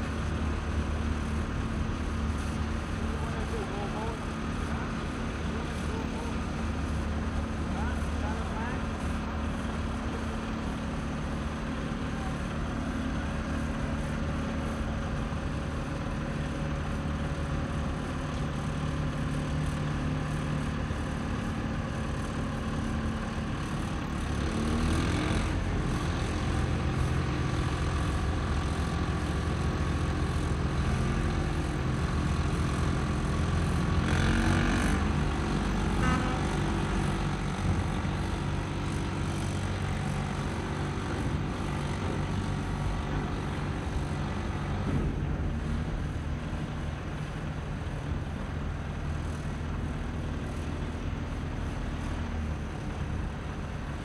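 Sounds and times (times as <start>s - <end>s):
diesel machinery droning: 0.0s - 54.0s.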